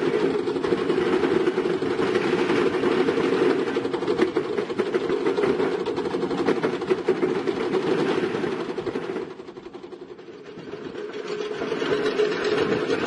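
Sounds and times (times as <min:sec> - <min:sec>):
diesel engine clattering: 0:00.0 - 0:13.0.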